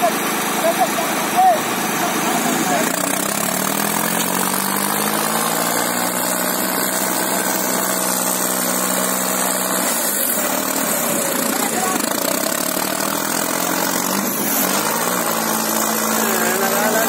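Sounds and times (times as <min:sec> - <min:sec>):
diesel tractor engines under strain: 0:00.0 - 0:17.0.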